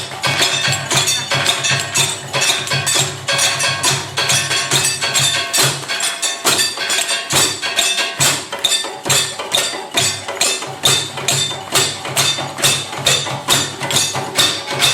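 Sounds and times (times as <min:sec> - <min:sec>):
woody percussion beat: 0:00.0 - 0:14.9.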